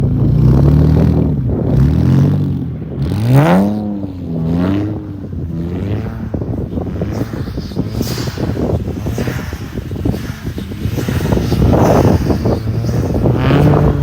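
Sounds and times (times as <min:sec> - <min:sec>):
car engine revving: 0:00.0 - 0:14.0
turbo flutter: 0:00.0 - 0:14.0.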